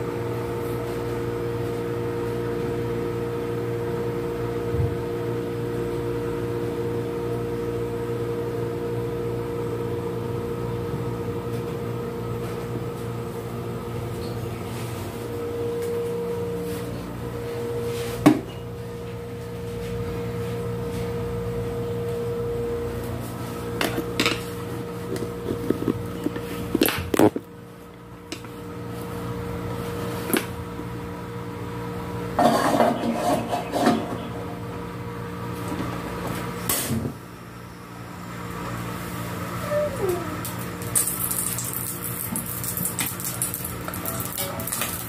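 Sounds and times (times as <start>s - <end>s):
steady hum: 0.0s - 44.8s.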